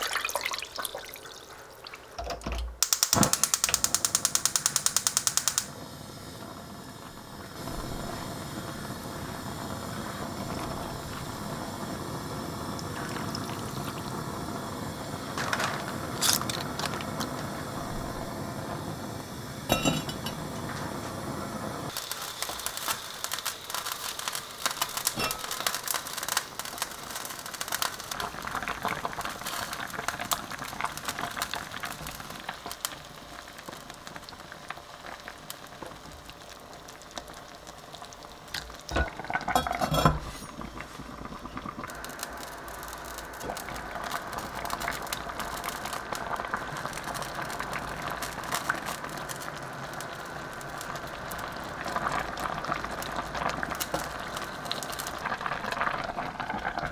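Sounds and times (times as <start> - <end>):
broth sizzling on pot rim: 0.0 - 2.2, 2.8 - 56.9
stew boiling and bubbling: 0.0 - 56.9.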